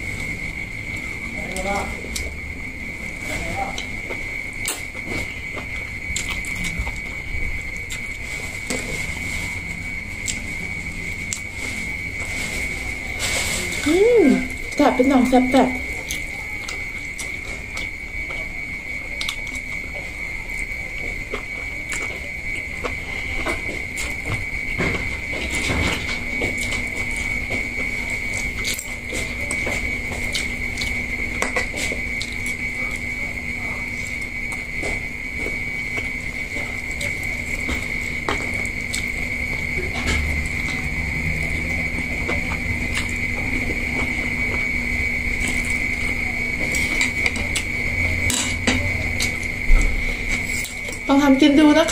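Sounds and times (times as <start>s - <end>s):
high-pitched whine: 0.0s - 51.9s
chewing: 3.2s - 14.8s, 15.8s - 33.2s, 33.8s - 51.1s.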